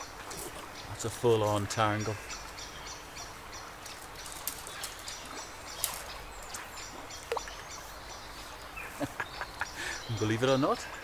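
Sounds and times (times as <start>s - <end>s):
bird chirps: 0.0s - 11.0s
river flowing: 0.0s - 11.0s.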